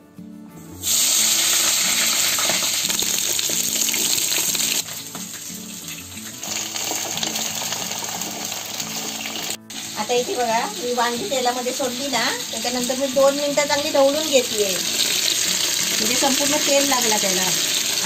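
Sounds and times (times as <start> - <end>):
vegetables sizzling in hot oil: 0.8 - 18.0.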